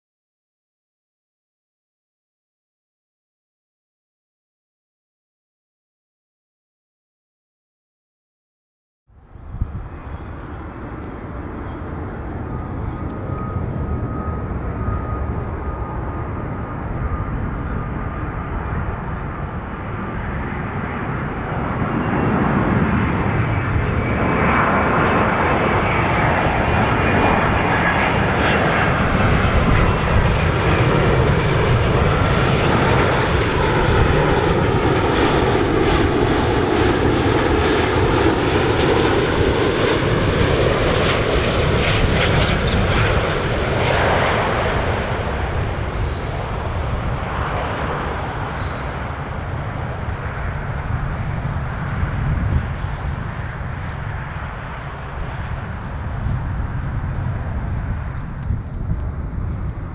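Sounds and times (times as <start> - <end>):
jet airliner passing overhead: 9.1 - 59.9.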